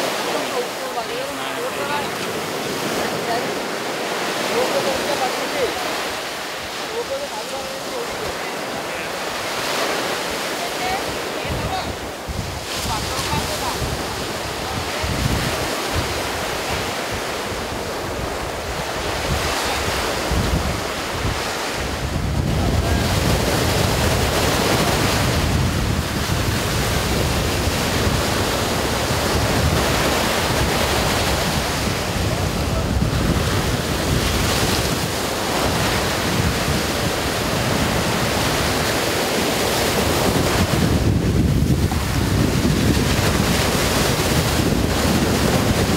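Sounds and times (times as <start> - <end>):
waves breaking: 0.0 - 45.9
wind rumbling on microphone: 0.0 - 45.9.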